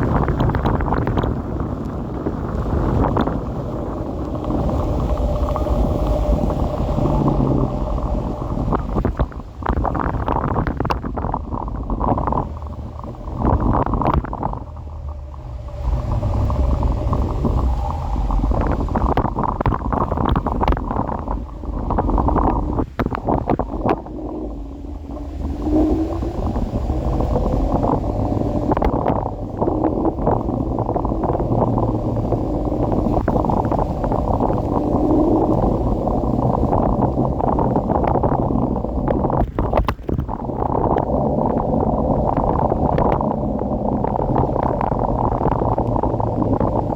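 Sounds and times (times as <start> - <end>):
scooter road noise rumble: 0.0 - 46.9
wind buffeting microphone: 0.0 - 46.9.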